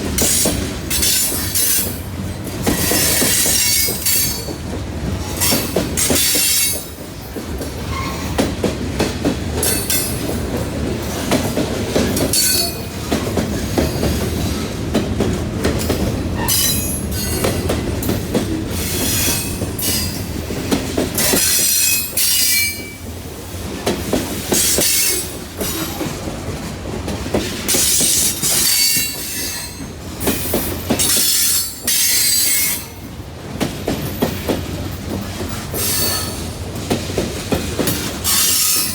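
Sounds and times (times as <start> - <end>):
train cars rumbling: 0.0 - 38.9
wheels clacking over rail joints: 0.0 - 38.9.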